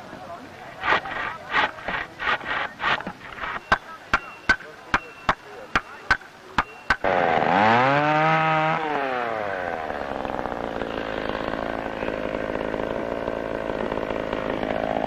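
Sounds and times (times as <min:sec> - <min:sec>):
chainsaw cutting a log: 0:00.6 - 0:15.0.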